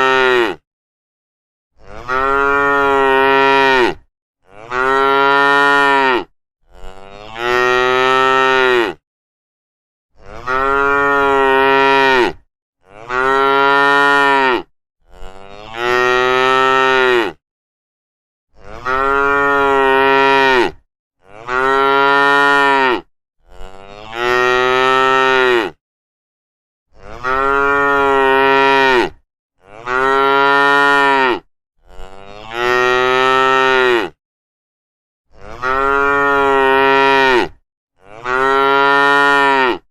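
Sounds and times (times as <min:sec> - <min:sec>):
cattle mooing: 0:01.8 - 0:09.0, 0:10.2 - 0:17.4, 0:18.6 - 0:25.8, 0:27.0 - 0:34.2, 0:35.3 - 0:39.8.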